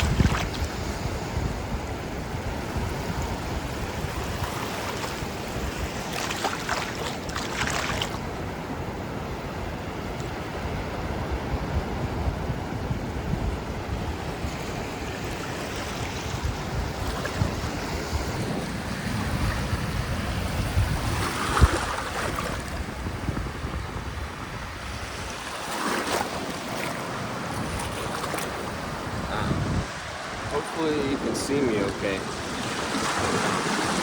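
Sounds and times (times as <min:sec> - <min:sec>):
wind rumbling on microphone: 0:00.0 - 0:25.6, 0:26.2 - 0:34.0
surf washing up on beach: 0:00.0 - 0:34.0.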